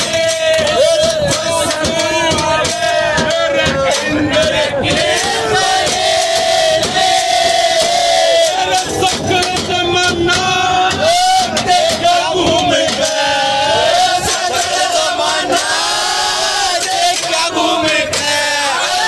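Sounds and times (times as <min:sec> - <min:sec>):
men singing folk song in chorus: 0:00.0 - 0:19.0.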